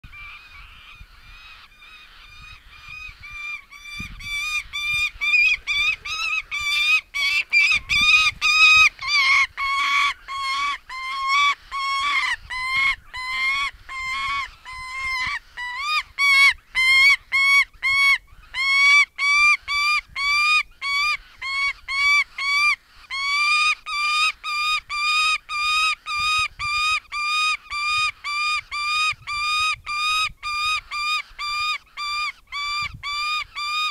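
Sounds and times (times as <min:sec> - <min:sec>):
falcon harsh calls: 0:00.2 - 0:33.9.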